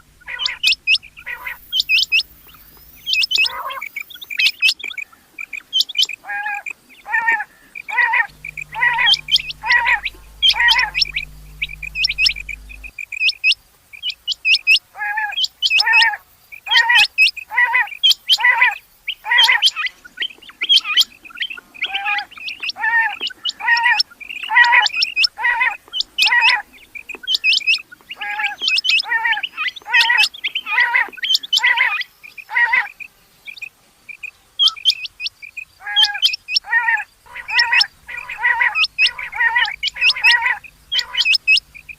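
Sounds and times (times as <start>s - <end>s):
quail calling: 0.0s - 12.9s, 14.6s - 33.6s, 34.2s - 41.9s.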